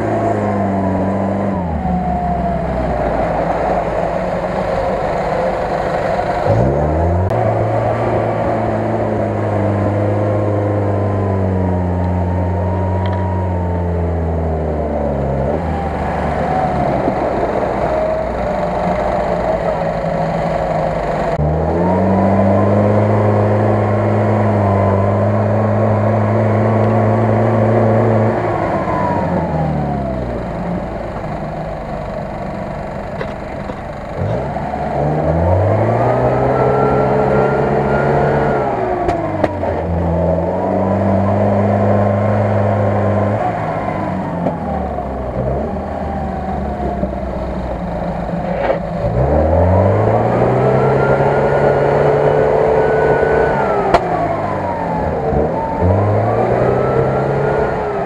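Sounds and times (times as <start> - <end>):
jeep engine revving under load: 0.0 - 58.0.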